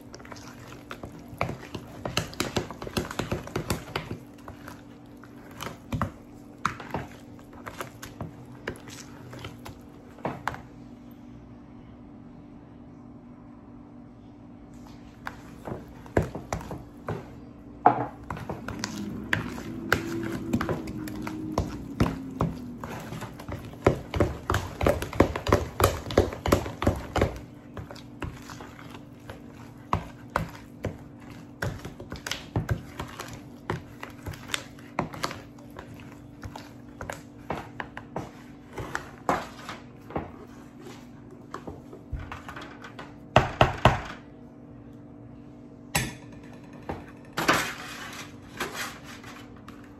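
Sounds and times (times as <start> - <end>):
spoon scraping a mixing bowl: 0.0 - 10.7, 14.8 - 43.1, 47.4 - 49.9.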